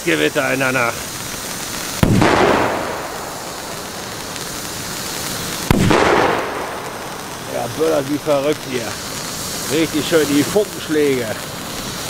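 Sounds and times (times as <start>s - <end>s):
firecracker bangs: 0.0s - 12.0s
hiss of burning sparkler: 0.0s - 12.0s.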